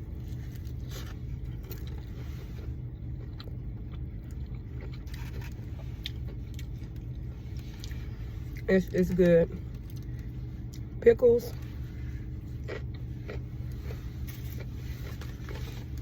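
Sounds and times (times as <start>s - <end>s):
person chewing food: 0.0s - 8.7s, 9.6s - 11.0s, 11.6s - 16.0s
steady low hum: 0.0s - 16.0s.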